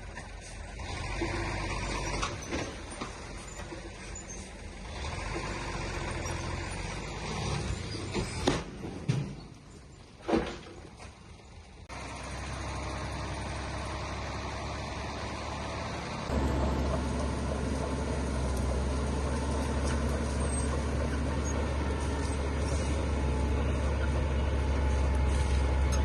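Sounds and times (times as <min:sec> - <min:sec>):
heavy diesel engine running: 0:00.0 - 0:08.5, 0:11.1 - 0:26.0.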